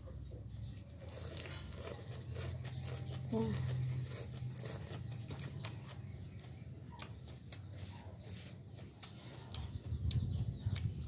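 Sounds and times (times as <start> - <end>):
person chewing noodles: 0.6 - 11.0.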